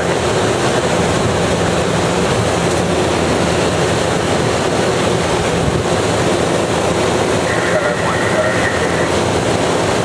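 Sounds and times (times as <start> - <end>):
airflow rushing over canopy: 0.0 - 10.0.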